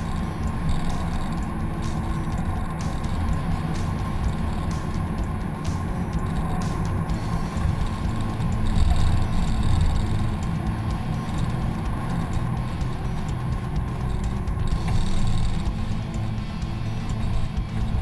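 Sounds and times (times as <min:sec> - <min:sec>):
off-road vehicle engine rumble: 0:00.0 - 0:18.0.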